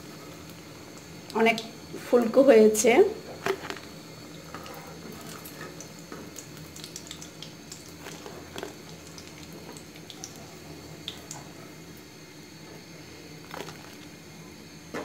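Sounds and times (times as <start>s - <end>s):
vegetable slices frying in oil: 0.0s - 14.8s.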